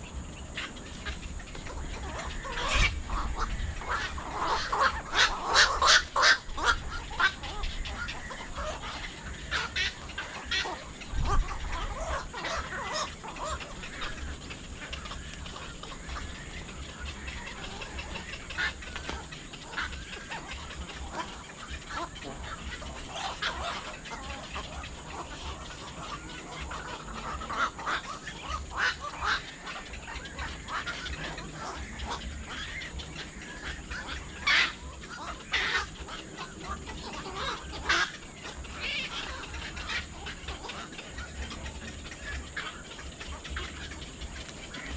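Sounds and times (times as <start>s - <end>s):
flock of birds calling: 0.0s - 44.9s.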